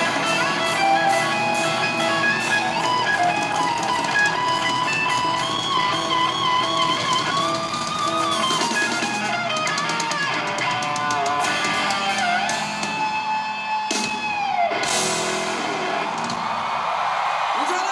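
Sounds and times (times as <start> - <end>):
live rock band playing: 0.0 - 16.7.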